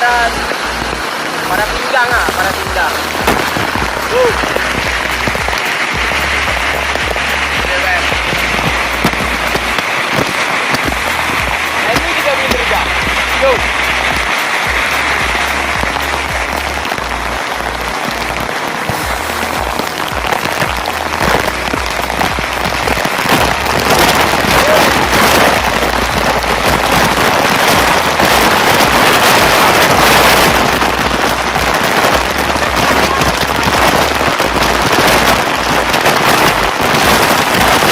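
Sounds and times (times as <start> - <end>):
waterfall rushing and splashing: 0.0 - 37.9.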